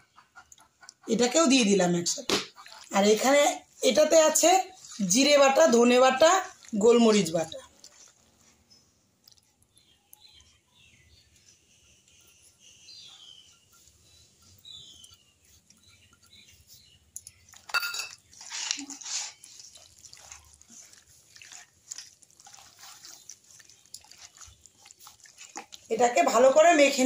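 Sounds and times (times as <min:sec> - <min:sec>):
hands squishing wet meat in bowl: 0:00.7 - 0:27.0.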